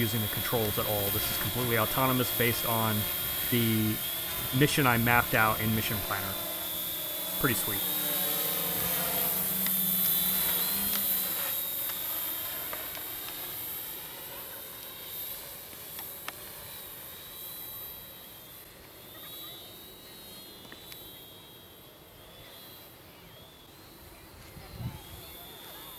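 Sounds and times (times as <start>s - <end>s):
drone propellers whining: 0.0s - 25.9s.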